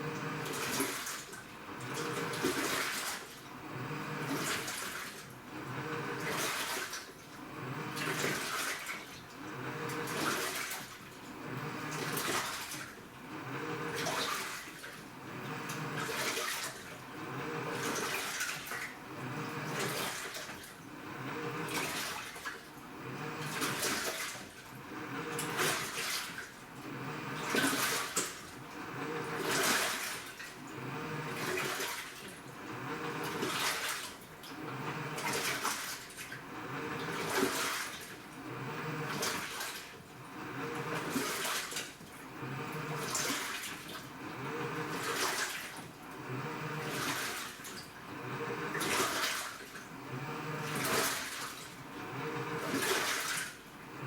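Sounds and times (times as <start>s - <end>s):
motor hum: 0.0s - 54.0s
washing machine water sloshing: 0.0s - 54.0s.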